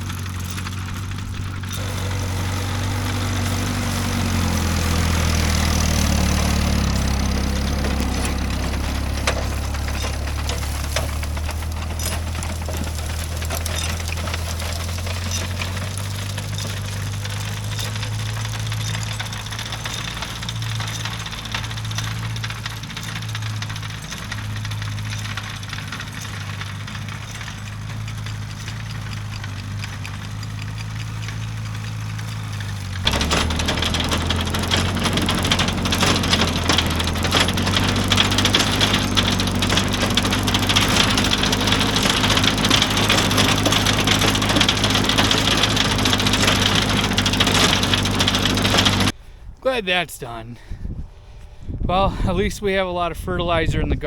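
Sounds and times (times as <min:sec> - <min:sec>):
manure spreader clattering: 0:00.0 - 0:50.4
tractor engine running: 0:00.0 - 0:54.0.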